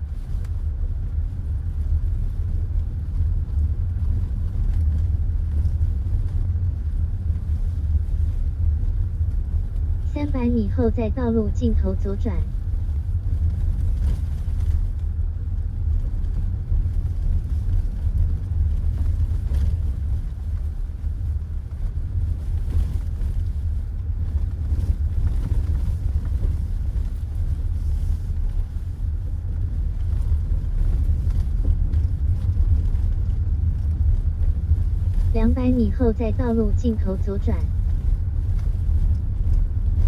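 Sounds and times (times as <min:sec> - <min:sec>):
car road and tyre rumble: 0:00.0 - 0:35.4, 0:37.5 - 0:40.0.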